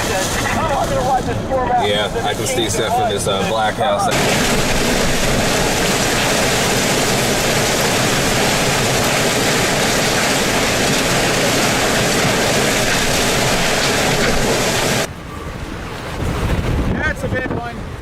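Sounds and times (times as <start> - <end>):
rain: 0.0 - 16.8
hurricane wind: 0.0 - 18.0.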